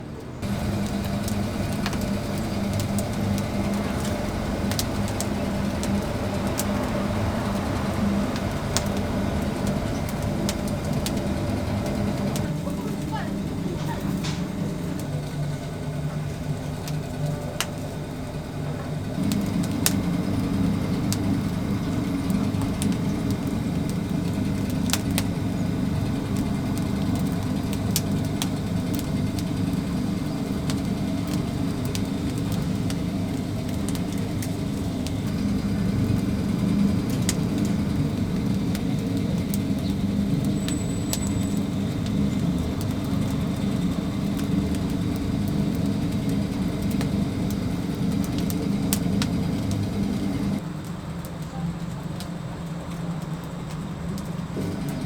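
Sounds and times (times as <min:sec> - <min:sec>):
low mechanical hum: 0:00.0 - 0:55.0
sharp clicks and crackles: 0:00.4 - 0:55.0.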